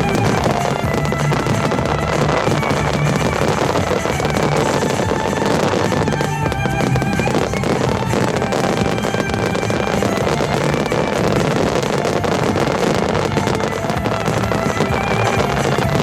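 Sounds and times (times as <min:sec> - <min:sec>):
fireworks bursts and crackling: 0:00.0 - 0:16.0
music: 0:00.0 - 0:16.0.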